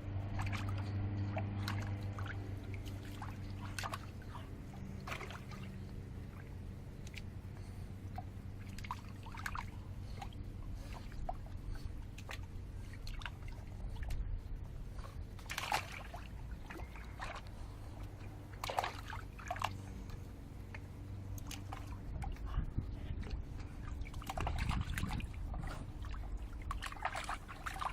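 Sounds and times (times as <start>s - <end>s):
water splashing in a bird bath: 0.0s - 22.6s, 23.2s - 27.9s
steady low rumble: 0.0s - 27.9s.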